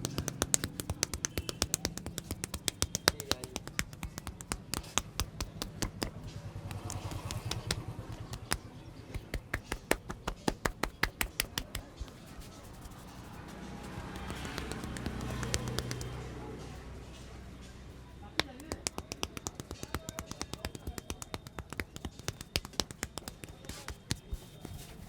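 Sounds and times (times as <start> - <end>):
rapid tapping on head: 0.0 - 16.2, 18.4 - 25.0.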